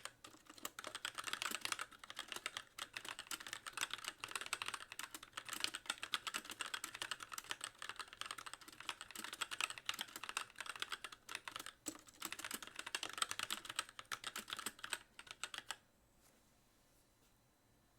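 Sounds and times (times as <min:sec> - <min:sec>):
fast mechanical keyboard typing: 0:00.0 - 0:15.8.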